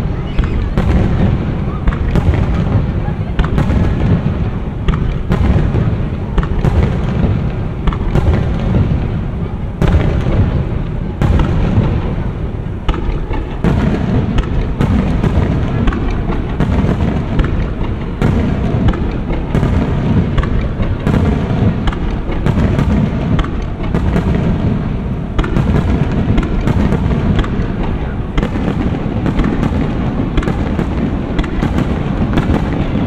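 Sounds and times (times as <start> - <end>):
firework shells bursting: 0.0 - 33.0.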